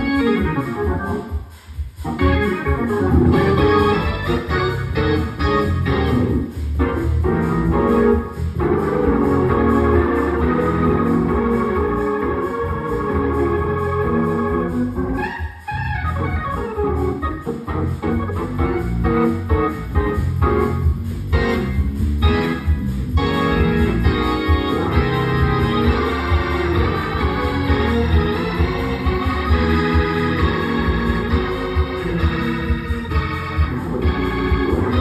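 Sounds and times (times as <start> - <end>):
organ chords through rotating speaker: 0.0 - 35.0.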